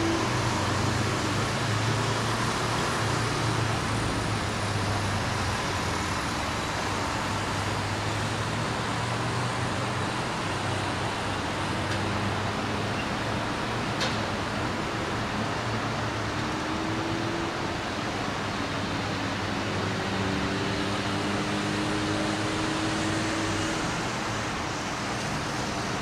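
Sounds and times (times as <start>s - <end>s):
distant road traffic hum: 0.0s - 26.0s.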